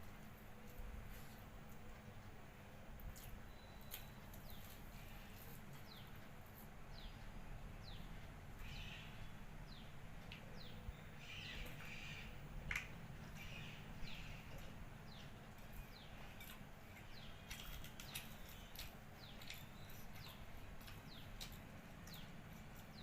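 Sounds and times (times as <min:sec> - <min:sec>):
low steady hum: 0:00.0 - 0:23.0
birds chirping: 0:03.1 - 0:23.0.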